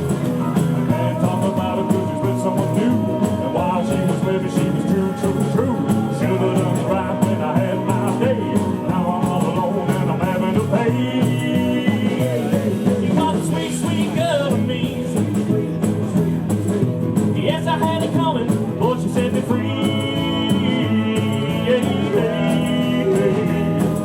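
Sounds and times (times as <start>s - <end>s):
live rockabilly band music: 0.0s - 24.0s.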